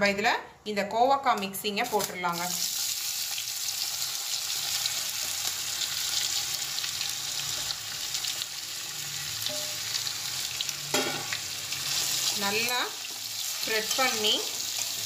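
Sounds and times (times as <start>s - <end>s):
vegetables sizzling in hot oil: 1.8s - 15.0s.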